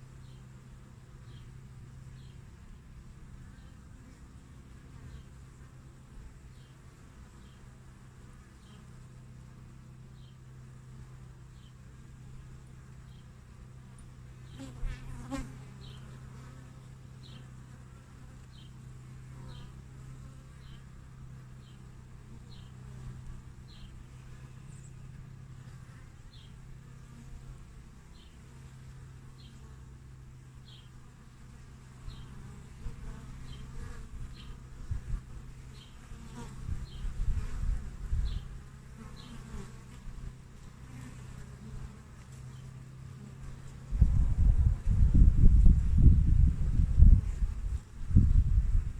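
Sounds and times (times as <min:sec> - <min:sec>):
honeybees buzzing: 0:00.1 - 0:48.9.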